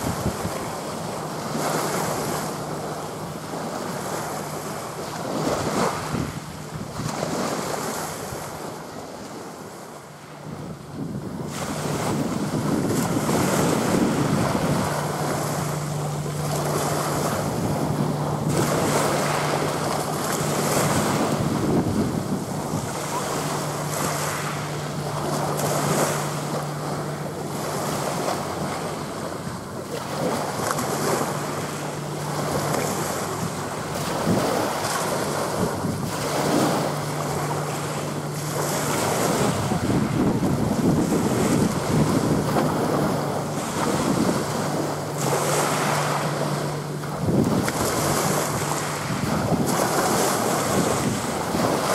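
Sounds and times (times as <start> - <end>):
small waves breaking: 0.0 - 51.9
steady low hum: 0.0 - 51.9
wind gusting over microphone: 0.0 - 51.9.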